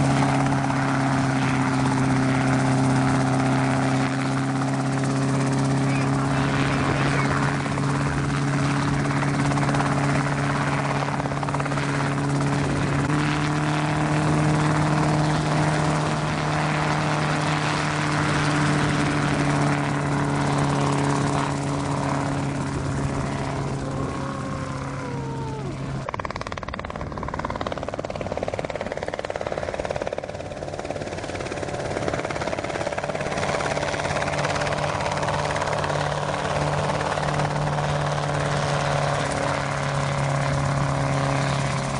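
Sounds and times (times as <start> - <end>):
helicopter droning in flight: 0.0 - 41.9.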